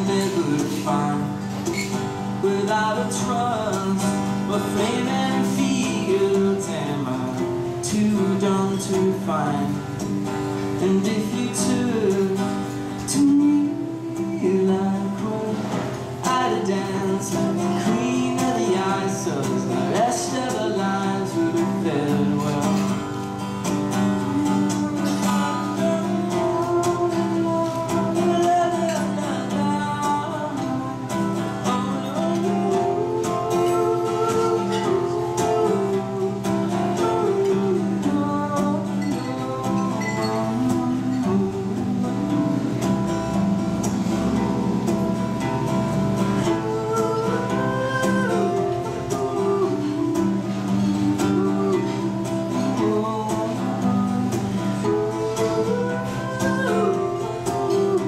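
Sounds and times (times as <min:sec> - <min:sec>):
acoustic guitar strummed: 0:00.0 - 0:58.0
man singing: 0:00.0 - 0:58.0.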